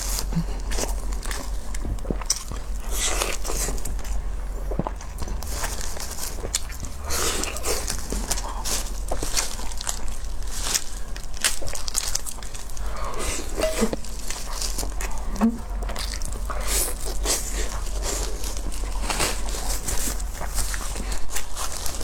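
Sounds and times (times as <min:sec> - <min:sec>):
crunching and biting seafood: 0:00.0 - 0:22.0
steady low hum: 0:00.0 - 0:22.0.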